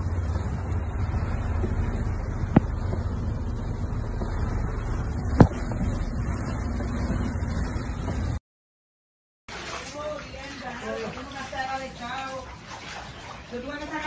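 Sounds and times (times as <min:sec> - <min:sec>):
car engine and water rumble: 0:00.0 - 0:08.4, 0:09.5 - 0:14.0.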